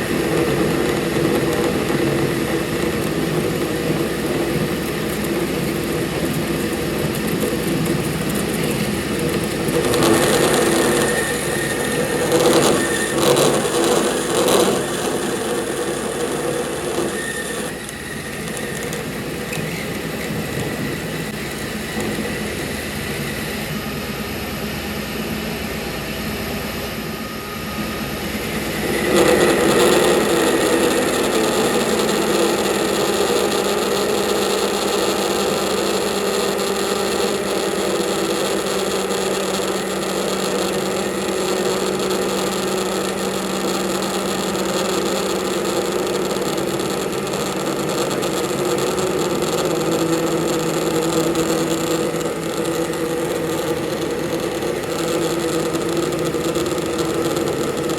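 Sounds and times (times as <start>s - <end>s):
workshop machine motor hum: 0.0s - 57.9s.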